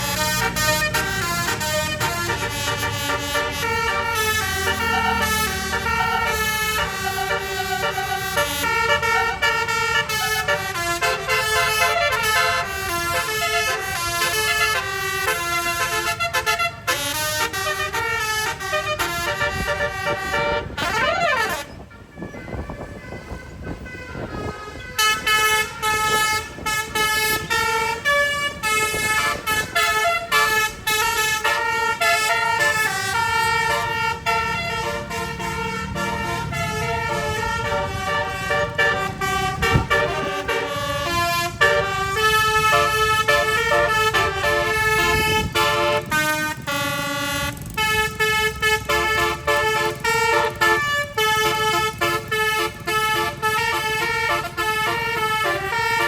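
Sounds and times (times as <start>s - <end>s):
bus air horn playing tune: 0.0s - 56.0s.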